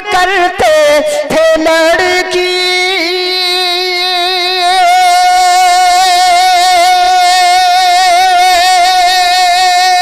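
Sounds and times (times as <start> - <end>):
man singing long high note: 0.0 - 10.0.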